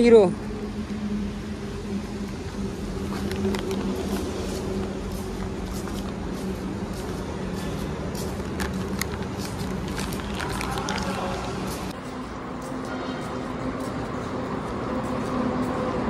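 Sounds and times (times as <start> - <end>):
low mechanical hum: 0.0 - 16.0
footsteps on tiled floor: 2.2 - 16.0.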